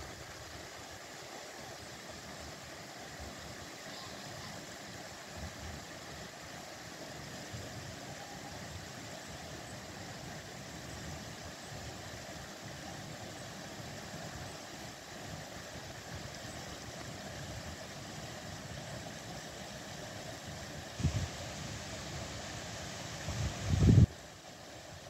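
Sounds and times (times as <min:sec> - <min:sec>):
stream running over stones: 0:00.0 - 0:25.0.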